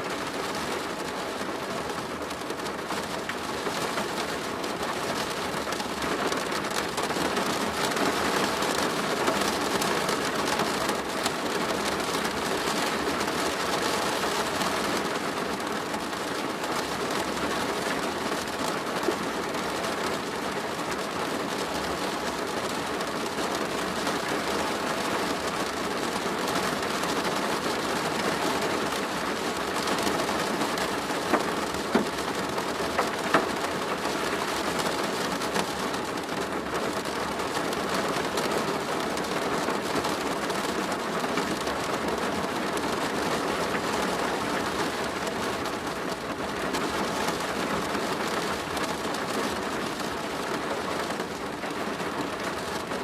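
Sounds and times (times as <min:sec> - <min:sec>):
rain drumming on a plastic roof: 0:00.0 - 0:53.0.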